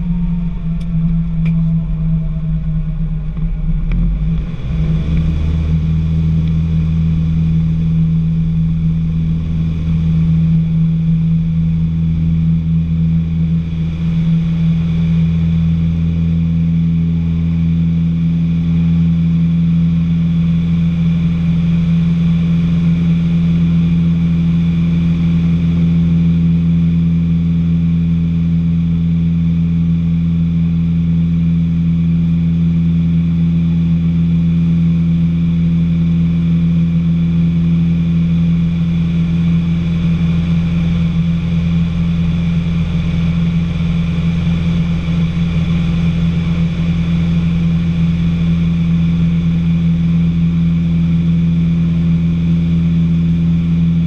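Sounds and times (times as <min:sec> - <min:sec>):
aircraft engine and propeller drone: 0:00.0 - 0:54.0.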